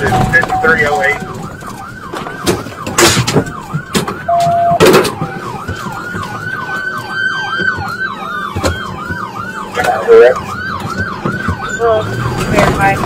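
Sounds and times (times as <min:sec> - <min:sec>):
police siren yelp: 0:00.0 - 0:13.0.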